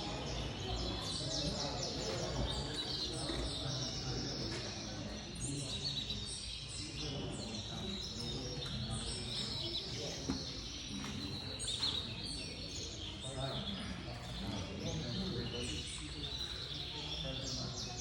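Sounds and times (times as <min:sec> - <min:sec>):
murmur of people talking: 0:00.0 - 0:18.0.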